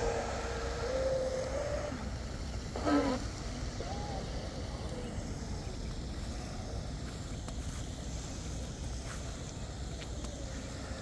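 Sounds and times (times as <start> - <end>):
distant motor whine: 0.0 - 11.0.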